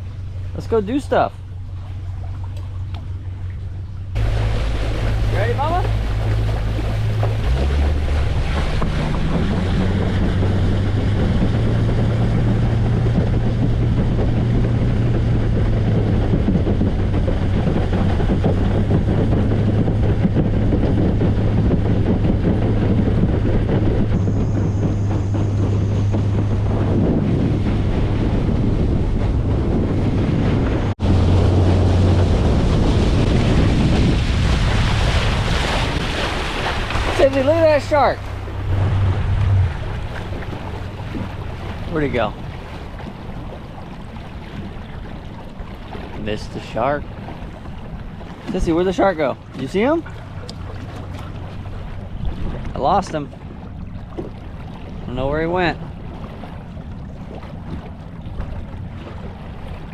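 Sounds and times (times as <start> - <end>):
boat motor hum: 0.0 - 59.9
water rushing past hull: 0.0 - 59.9
wind buffeting microphone: 0.0 - 59.9.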